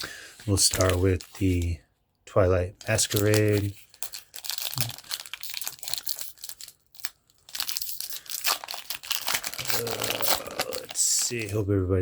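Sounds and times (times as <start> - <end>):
foil wrapper crinkling and tearing: 0.0 - 1.7, 2.8 - 11.6.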